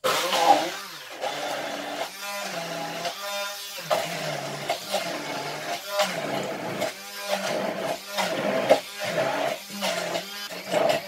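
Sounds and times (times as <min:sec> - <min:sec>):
immersion blender running: 0:00.0 - 0:11.0.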